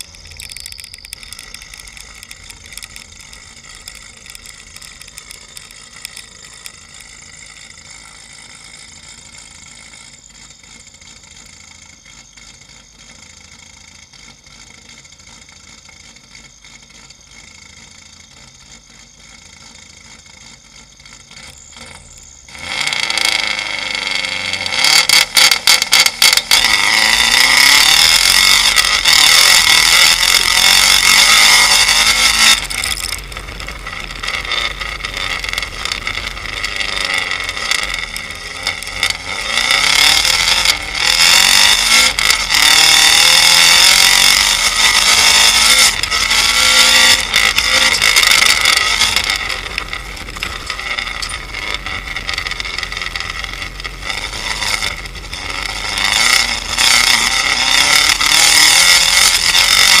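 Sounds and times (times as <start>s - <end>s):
rally car engine revving: 0.0s - 60.0s.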